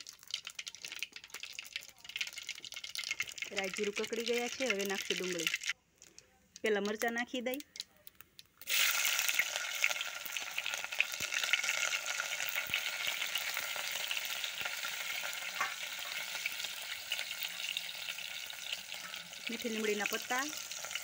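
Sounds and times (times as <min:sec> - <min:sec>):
chillies sizzling in hot oil: 0:00.0 - 0:05.8, 0:08.6 - 0:21.0
oil popping: 0:00.0 - 0:05.8, 0:06.5 - 0:21.0.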